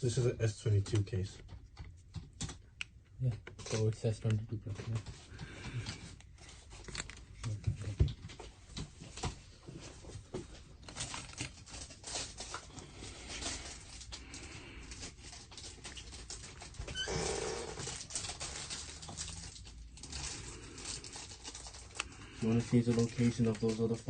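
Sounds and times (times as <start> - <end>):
rustling: 1.3 - 24.0.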